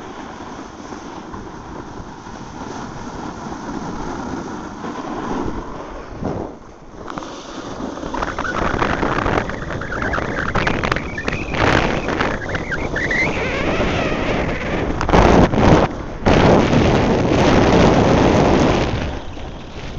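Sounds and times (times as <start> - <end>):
snowboard scraping over snow: 0.0 - 19.9
wind on microphone: 0.0 - 19.9.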